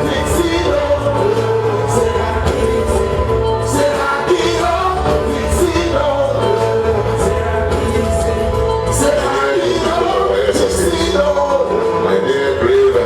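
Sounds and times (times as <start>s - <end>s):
pop music with singing: 0.0s - 13.0s.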